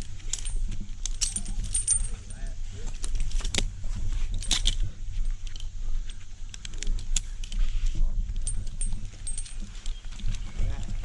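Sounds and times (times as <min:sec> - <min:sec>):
metal climbing gear clinking: 0:00.0 - 0:11.0.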